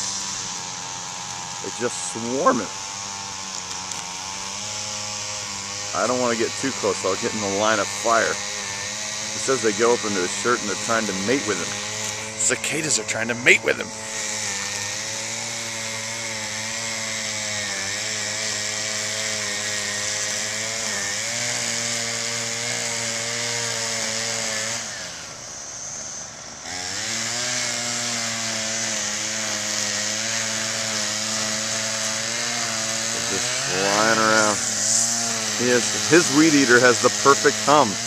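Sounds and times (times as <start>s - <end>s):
string trimmer engine running: 0.0s - 38.0s.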